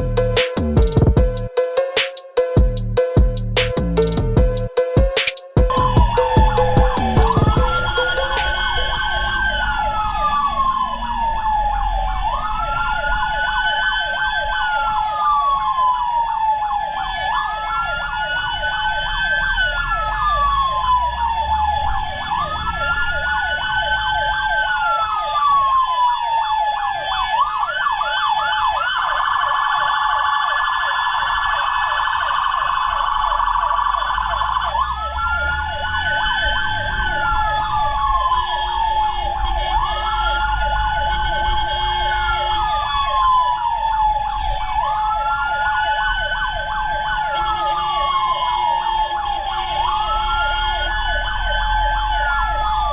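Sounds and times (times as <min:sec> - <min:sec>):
fire truck siren wail: 0:00.0 - 0:52.9
steady siren tone: 0:00.0 - 0:52.9
fast pulsing siren: 0:05.2 - 0:52.9
siren yelp and warble: 0:05.7 - 0:52.9.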